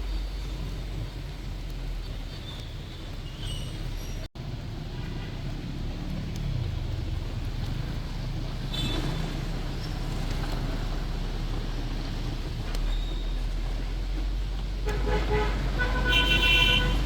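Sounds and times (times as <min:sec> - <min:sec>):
bus engine rumble: 0:00.0 - 0:17.0
road traffic: 0:00.0 - 0:17.0.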